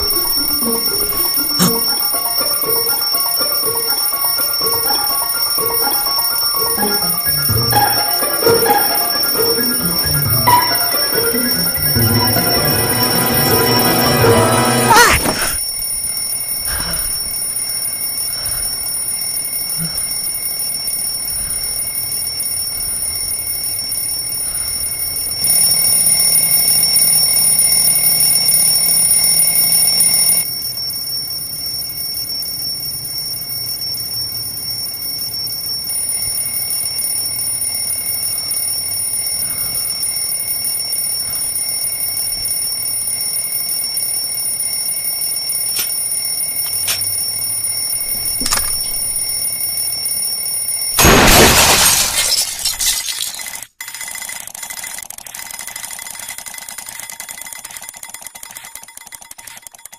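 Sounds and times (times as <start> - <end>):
alarm clock ringing: 0.0 - 33.1, 33.7 - 51.0.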